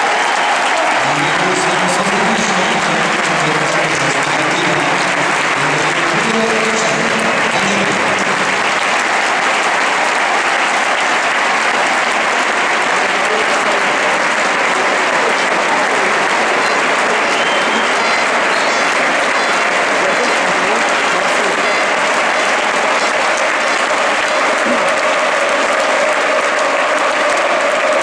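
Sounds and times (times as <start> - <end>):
crowd voices: 0.0 - 28.0
stadium crowd applauding: 0.0 - 28.0.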